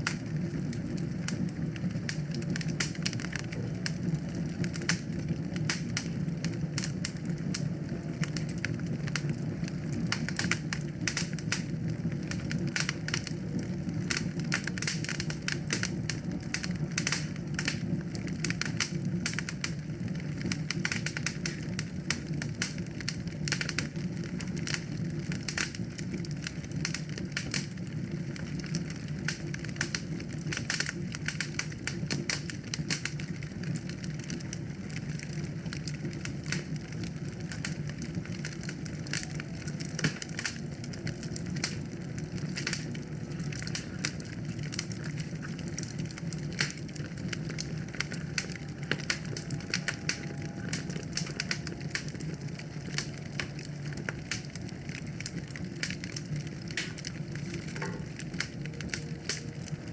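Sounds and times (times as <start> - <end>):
low rush of flame: 0.0 - 59.9
wood fire crackling and popping: 0.0 - 59.9.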